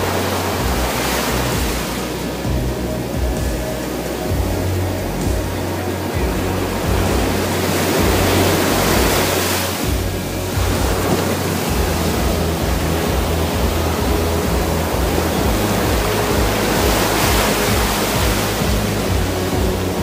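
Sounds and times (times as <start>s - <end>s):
background music: 0.0s - 20.0s
waves breaking and washing in: 0.0s - 20.0s.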